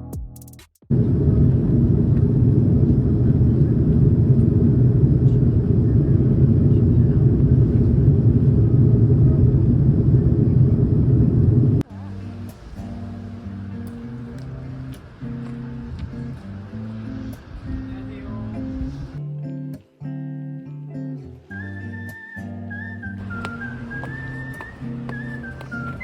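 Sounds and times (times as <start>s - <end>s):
vehicle rumbling in motion: 0.9s - 19.2s, 23.2s - 26.0s.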